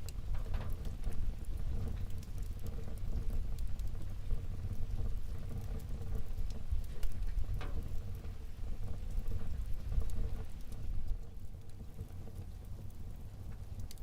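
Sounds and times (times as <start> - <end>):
fire flames rumbling: 0.0 - 14.0
wood fire crackling and popping: 0.0 - 14.0.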